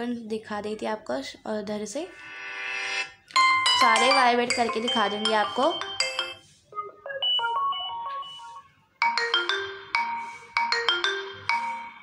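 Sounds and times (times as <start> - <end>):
phone ringtones: 2.2 - 12.0.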